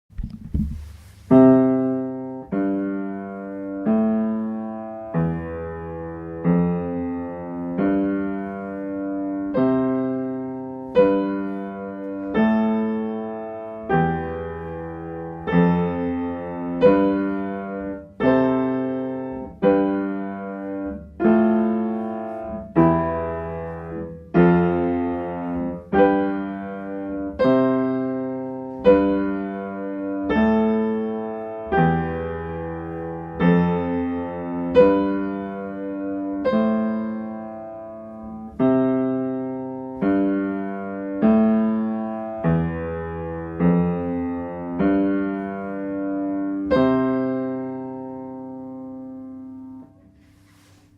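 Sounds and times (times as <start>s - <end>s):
piano playing slow chords: 0.9s - 50.9s.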